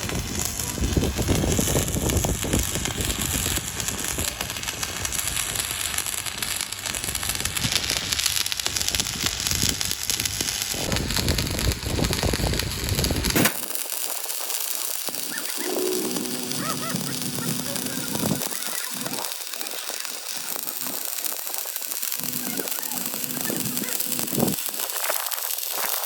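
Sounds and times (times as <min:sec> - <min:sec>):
electric welding crackling: 0:00.0 - 0:26.0.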